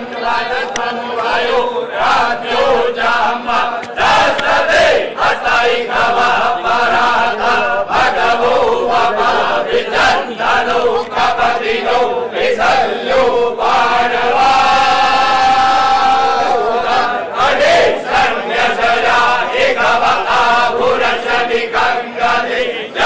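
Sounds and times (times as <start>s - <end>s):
men chanting together: 0.0s - 23.0s.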